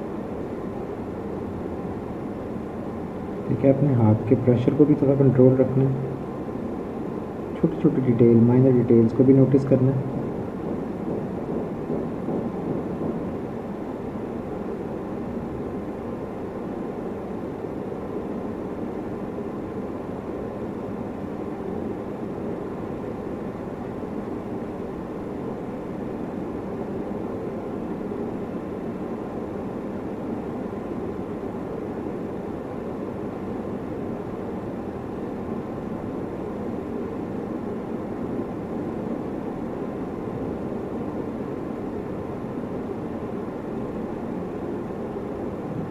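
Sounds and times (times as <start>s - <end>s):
steady rumbling noise: 0.0s - 45.9s.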